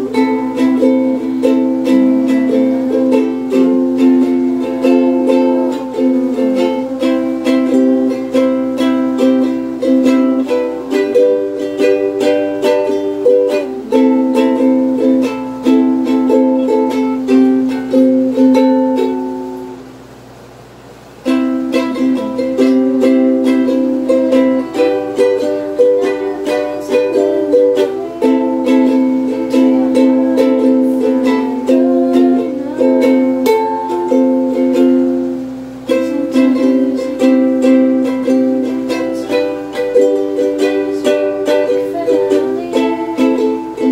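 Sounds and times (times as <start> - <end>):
ukulele strumming chords: 0.0 - 43.9.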